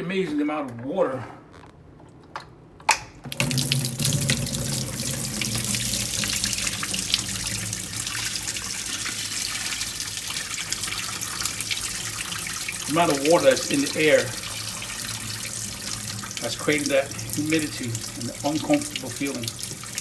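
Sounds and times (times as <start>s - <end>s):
water pouring from a tank: 3.3s - 20.0s.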